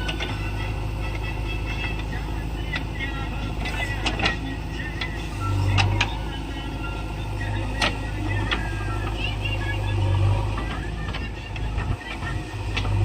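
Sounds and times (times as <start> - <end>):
diesel engine working under load: 0.0 - 13.0.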